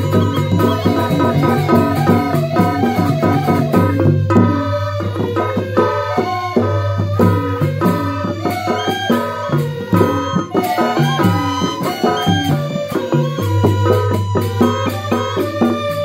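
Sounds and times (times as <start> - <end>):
bamboo flutes melody: 0.0 - 16.0
hand drums: 0.0 - 16.0.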